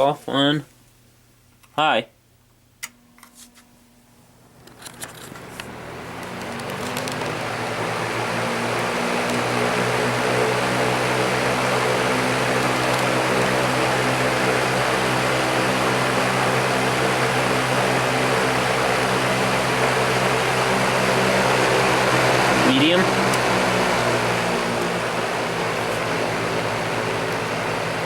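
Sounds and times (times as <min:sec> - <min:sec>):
fan motor hum: 0:02.4 - 0:28.0
fan air rushing: 0:03.4 - 0:28.0.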